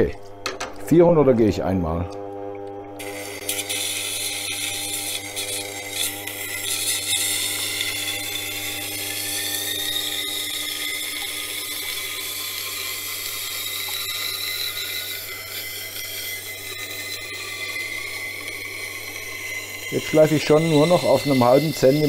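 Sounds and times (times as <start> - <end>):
wet grinder motor hum: 0.0 - 22.0
knife grinding on stone: 3.0 - 22.0.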